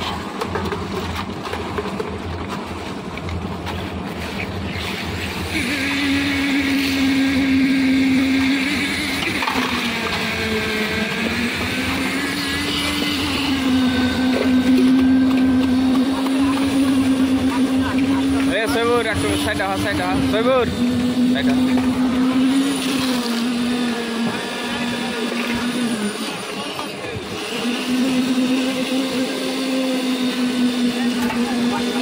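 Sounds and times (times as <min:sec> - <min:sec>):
concrete mixer engine running: 0:00.0 - 0:32.0.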